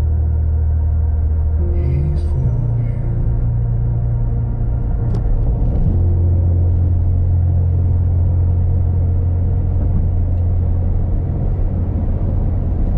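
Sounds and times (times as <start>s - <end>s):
car engine and road drone: 0.0s - 12.9s.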